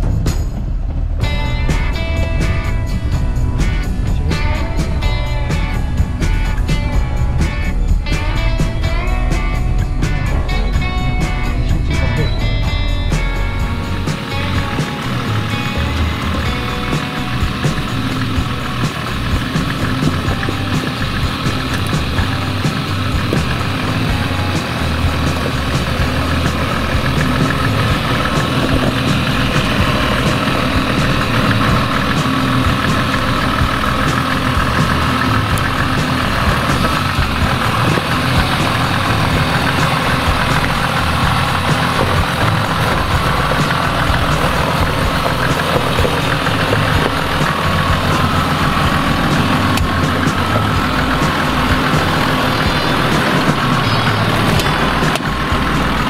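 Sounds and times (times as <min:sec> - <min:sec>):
diesel engine running at low revs: 0:00.0 - 0:56.0.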